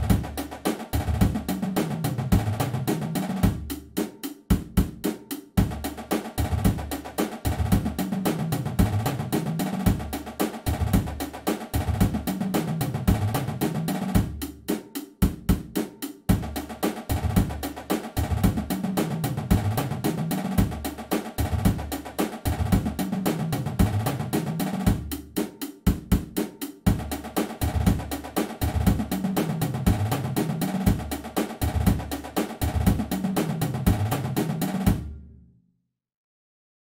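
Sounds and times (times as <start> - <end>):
snare and tenor drum rolls: 0.0 - 35.1.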